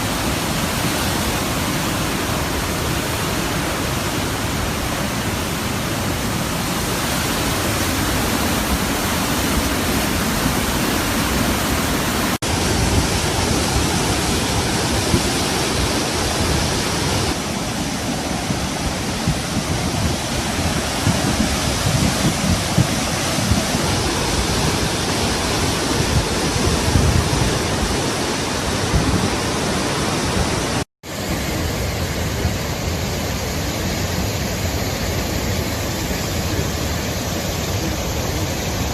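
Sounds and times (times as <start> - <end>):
rush of fast-flowing floodwater: 0.0 - 38.9.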